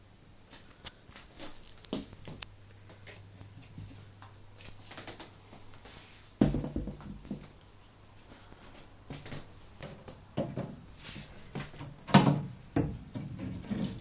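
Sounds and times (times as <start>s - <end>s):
faint low steady hum: 0.0s - 14.0s.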